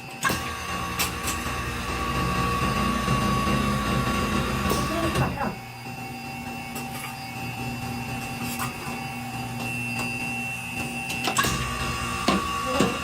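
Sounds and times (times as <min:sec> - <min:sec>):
factory machine hum and whine: 0:00.0 - 0:13.0
deeper hum: 0:00.3 - 0:13.0.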